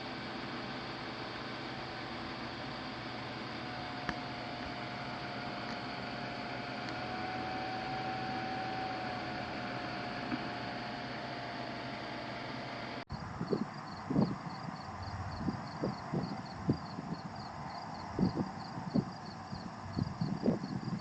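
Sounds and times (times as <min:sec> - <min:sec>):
steady whining tone: 0:00.0 - 0:21.0.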